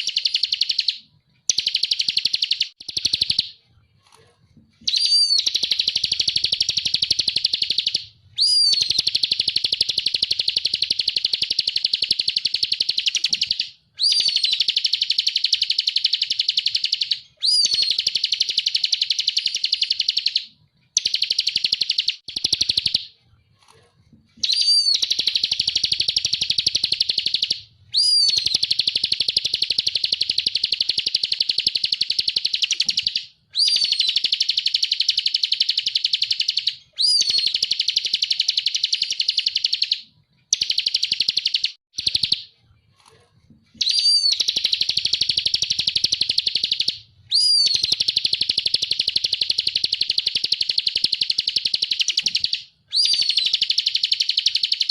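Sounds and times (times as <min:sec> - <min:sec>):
bird singing rapid trills: 0:04.9 - 0:23.0, 0:24.4 - 0:42.4, 0:43.8 - 0:54.9.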